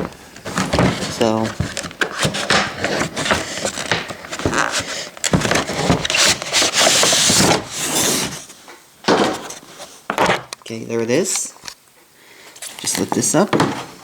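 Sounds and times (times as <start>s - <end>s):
packaging sliding and rustling: 0.0s - 10.4s, 12.5s - 14.0s.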